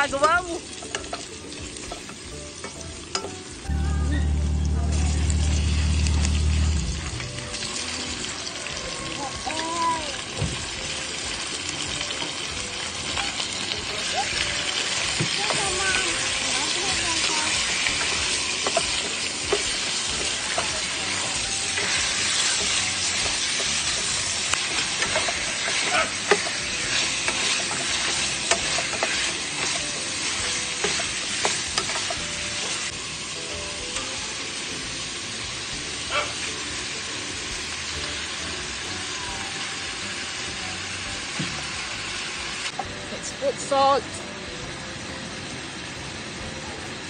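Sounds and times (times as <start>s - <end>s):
meat sizzling in a pot: 0.0s - 47.0s.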